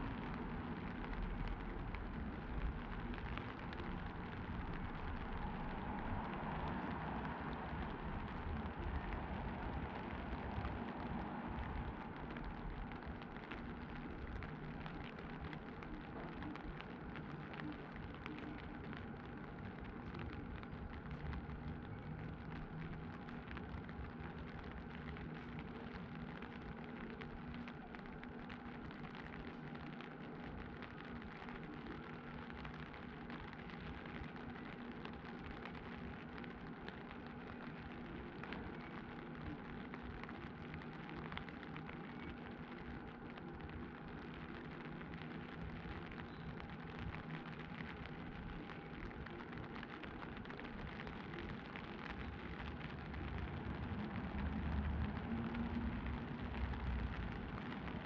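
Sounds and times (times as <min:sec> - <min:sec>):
rain falling on street: 0:00.0 - 0:58.0.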